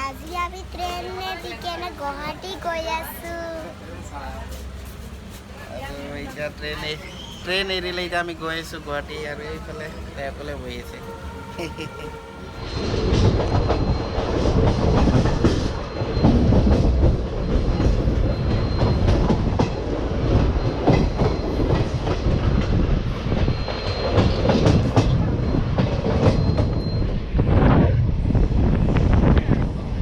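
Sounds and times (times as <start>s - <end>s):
train rumbling inside coach: 0.0s - 30.0s.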